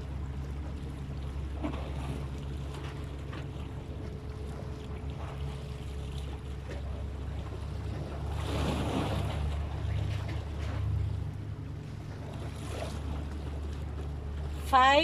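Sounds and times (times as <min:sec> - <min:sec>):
water noise: 0:00.0 - 0:15.0.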